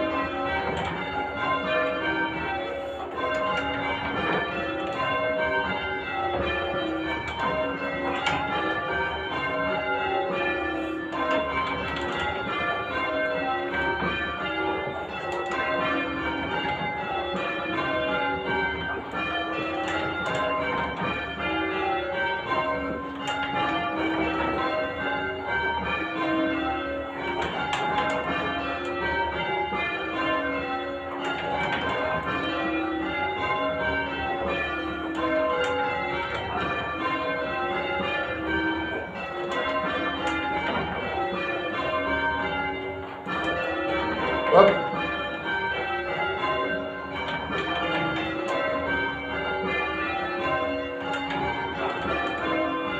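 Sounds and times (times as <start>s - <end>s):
church bells ringing in changes: 0.0s - 52.9s.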